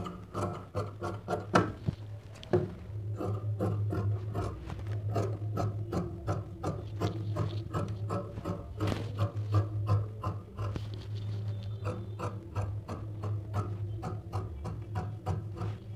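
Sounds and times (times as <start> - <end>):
shears cutting fabric: 0.0 - 1.8, 3.1 - 15.9
steady low hum: 0.0 - 15.9.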